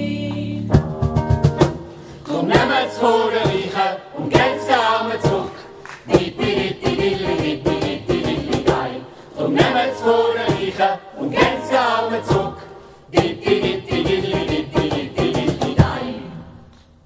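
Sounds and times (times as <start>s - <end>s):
ensemble singing in chorus: 0.0s - 0.7s, 2.0s - 16.9s.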